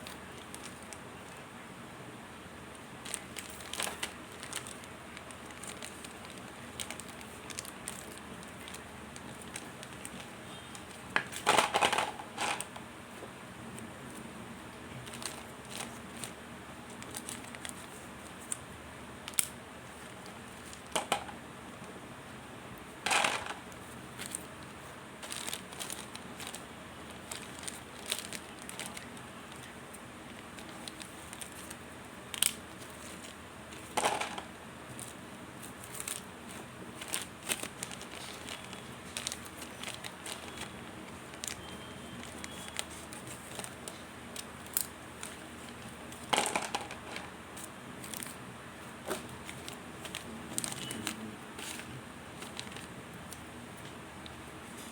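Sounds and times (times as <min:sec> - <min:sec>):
packaging crinkling and crackling: 0:00.0 - 0:01.6, 0:02.4 - 0:21.8, 0:23.0 - 0:54.9.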